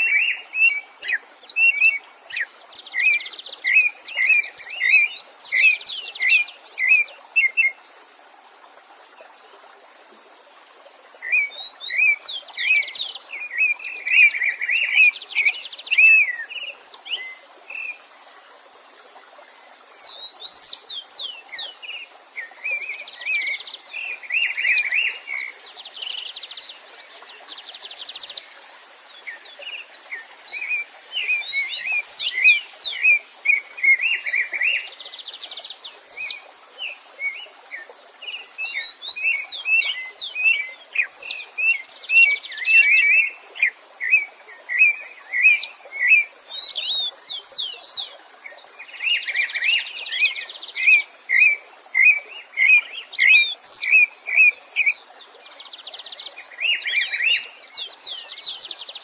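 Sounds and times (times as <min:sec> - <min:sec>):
songbirds singing: 0:00.0 - 0:08.1, 0:10.8 - 0:59.0
faint steady hiss: 0:00.0 - 0:59.0.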